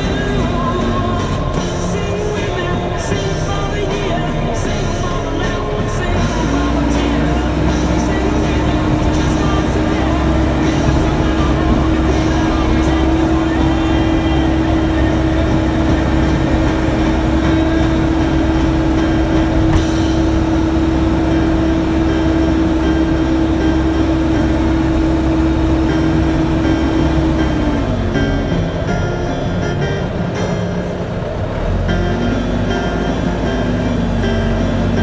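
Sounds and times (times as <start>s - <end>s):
diesel engine with whine: 0.0s - 35.0s.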